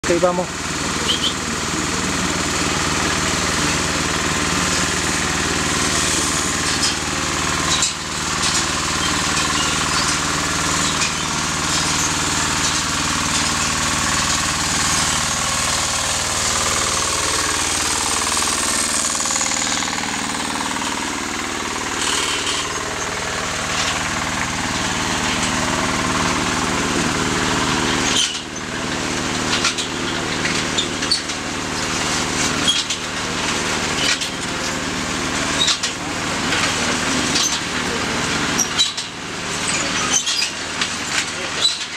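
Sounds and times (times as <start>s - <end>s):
cableway trolley engine running: 0.0s - 41.9s.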